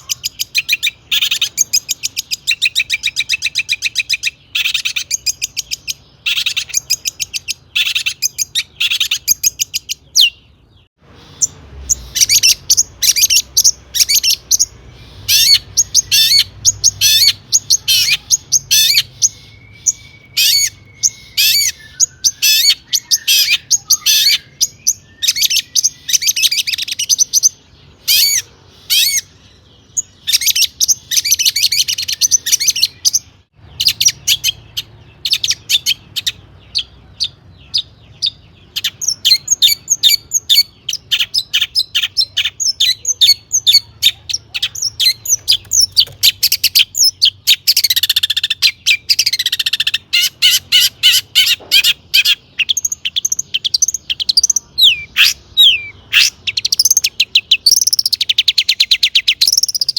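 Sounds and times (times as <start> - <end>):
shrike singing varied song: 0.0 - 59.9.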